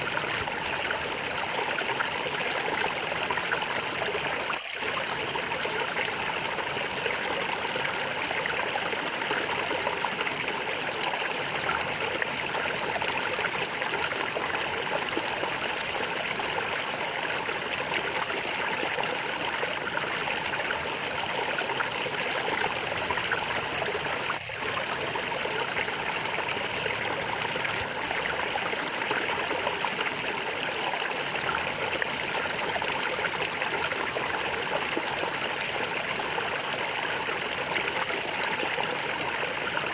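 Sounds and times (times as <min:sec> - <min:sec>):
flowing water gurgling: 0:00.0 - 0:39.9.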